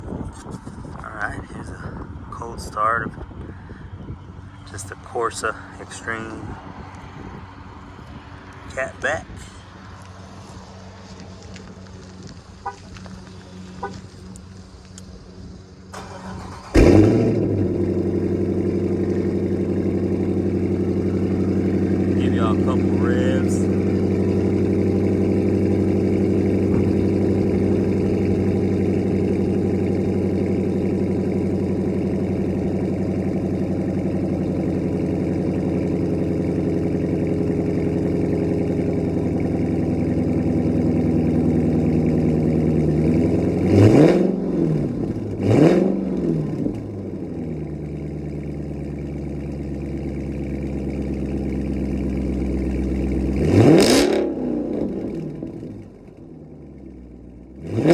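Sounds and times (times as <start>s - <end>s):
car engine idling: 0.0s - 57.9s
car engine revving: 4.4s - 57.9s.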